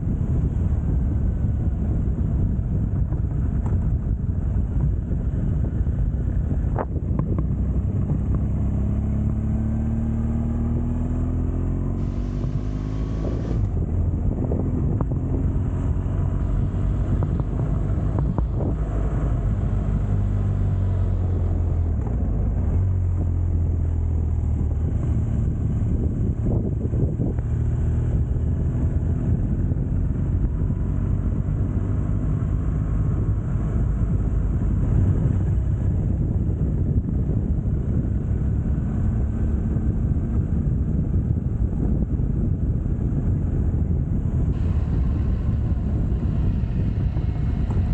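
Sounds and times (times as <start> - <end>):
motorcycle engine running: 0.0 - 28.3, 29.2 - 47.9
road rumble: 0.0 - 47.9
wind noise on microphone: 0.0 - 47.9.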